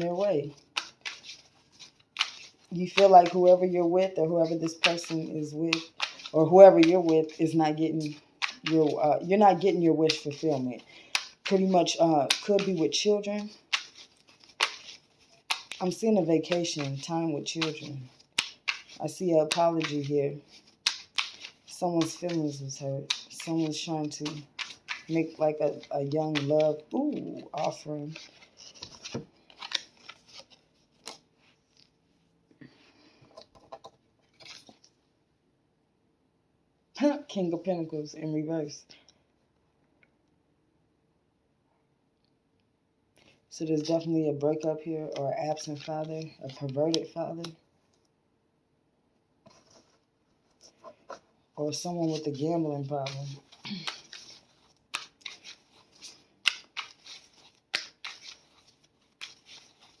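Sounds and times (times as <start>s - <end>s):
cards clicking and rustling: 0.0s - 31.9s, 33.2s - 34.9s, 43.2s - 47.6s, 49.5s - 60.0s.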